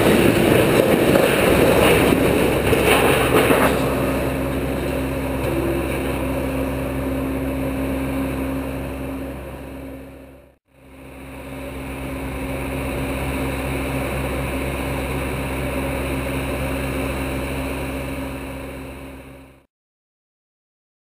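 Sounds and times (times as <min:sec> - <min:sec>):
mechanical hum with low drone: 0:00.0 - 0:19.7.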